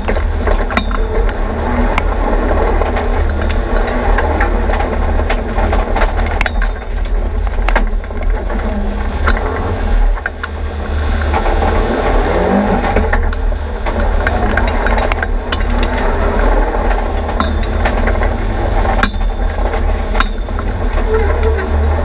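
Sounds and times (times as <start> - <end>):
car engine drone: 0.0 - 22.0
road noise: 0.0 - 22.0.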